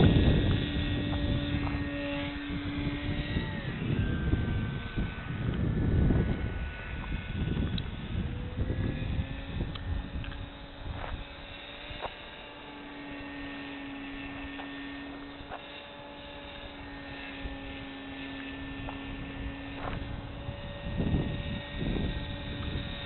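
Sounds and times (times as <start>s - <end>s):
model airplane motor humming: 0.0s - 23.0s.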